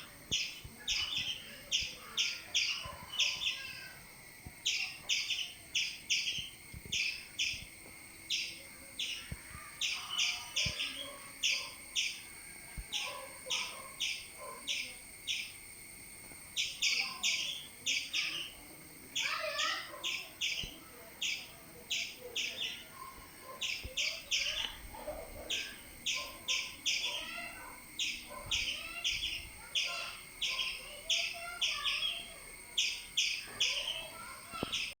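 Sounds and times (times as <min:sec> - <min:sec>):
faint chirps and warbling: 0:00.0 - 0:15.6, 0:16.6 - 0:35.0
squirrel alarm chirping: 0:00.3 - 0:03.9, 0:04.6 - 0:07.6, 0:08.3 - 0:12.3, 0:12.9 - 0:15.6, 0:16.6 - 0:18.6, 0:19.2 - 0:35.0.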